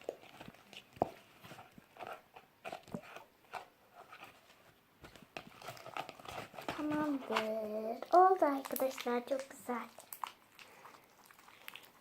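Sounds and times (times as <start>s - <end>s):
slime squelching: 0.0s - 4.4s, 5.0s - 12.0s.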